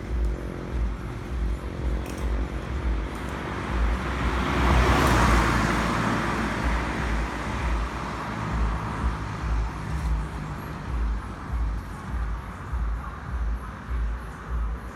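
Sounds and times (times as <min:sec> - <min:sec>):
vehicle passing: 0:00.0 - 0:14.6
low traffic rumble: 0:00.0 - 0:14.9.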